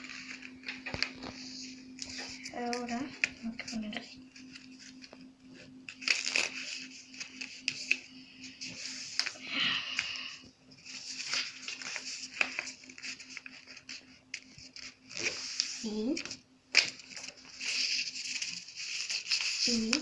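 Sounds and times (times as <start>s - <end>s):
paper rustling and creasing: 0.0s - 20.0s
steady low hum: 0.0s - 20.0s.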